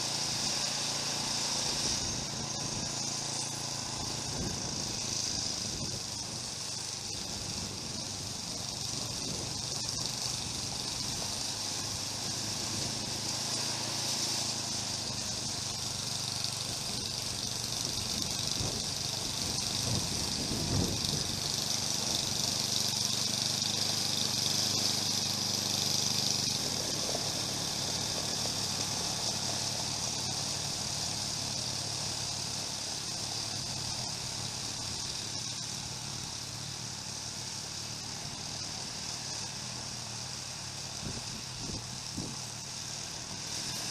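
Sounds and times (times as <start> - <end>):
snowblower engine running: 0.0 - 43.9
steady hiss: 0.0 - 43.9.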